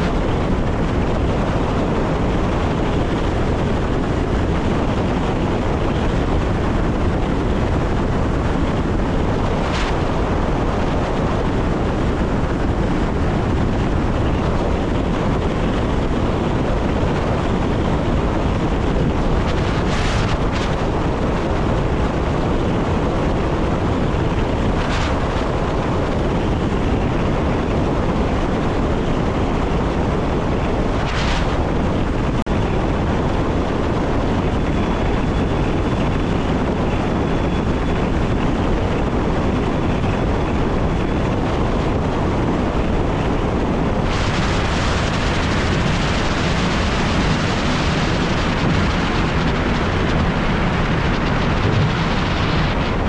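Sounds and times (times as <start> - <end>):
wind noise: 0.0 - 53.0.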